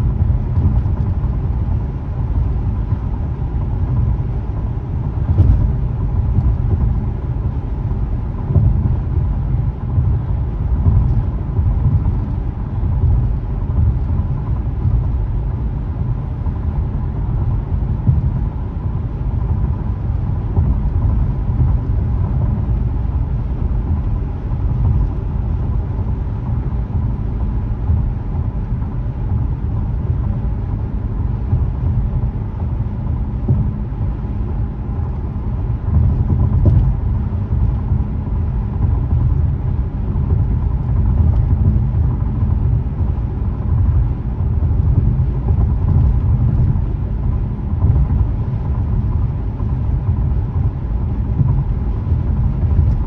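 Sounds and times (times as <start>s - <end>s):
car cabin road rumble: 0.0s - 53.0s.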